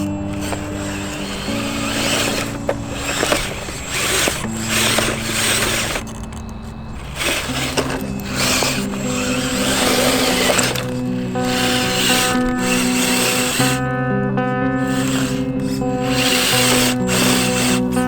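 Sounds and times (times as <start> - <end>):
background music with low notes: 0.0 - 18.0
loud rough whirring: 0.0 - 18.0.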